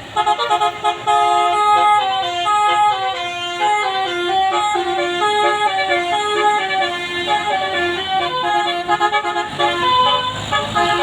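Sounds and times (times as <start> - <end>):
bus musical air horn melody: 0.0 - 11.0.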